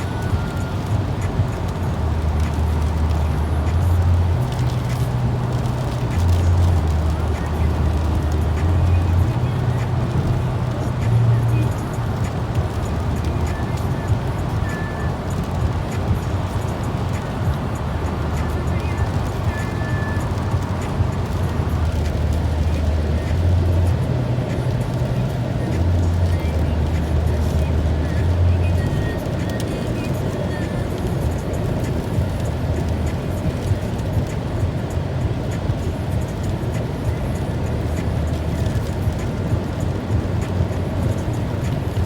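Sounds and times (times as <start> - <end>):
car driving low drone: 0.0 - 42.0
tyres hissing on wet road: 0.0 - 42.0.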